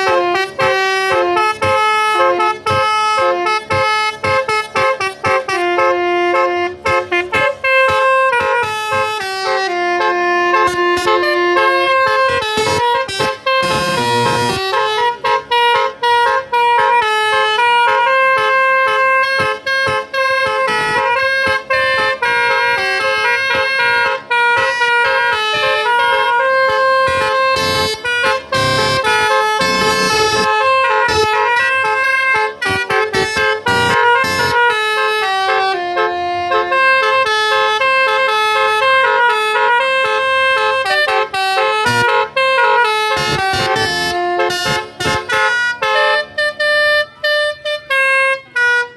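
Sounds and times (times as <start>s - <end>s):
musical car horn playing a tune: 0.0s - 48.9s.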